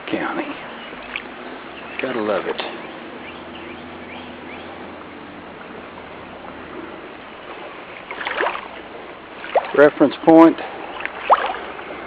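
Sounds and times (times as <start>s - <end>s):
river rushing: 1.1s - 12.0s.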